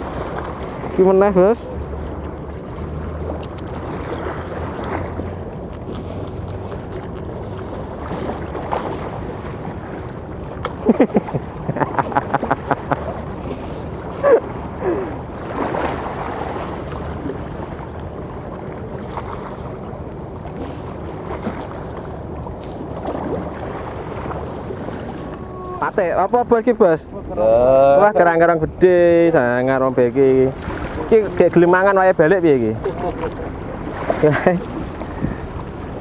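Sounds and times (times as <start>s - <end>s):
open water: 0.0s - 36.0s
steady low hum: 0.0s - 36.0s.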